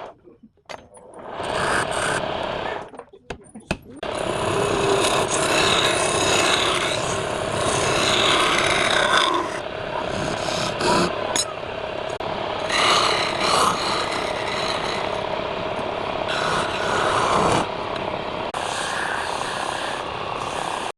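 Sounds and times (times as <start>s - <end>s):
tool scraping spinning wood: 1.1s - 2.9s, 4.0s - 17.8s, 18.5s - 20.9s
wood lathe humming: 4.0s - 20.9s.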